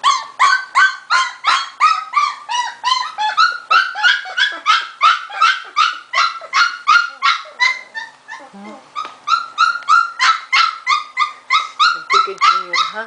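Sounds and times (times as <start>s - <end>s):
puppy yelping whines: 0.0s - 13.0s.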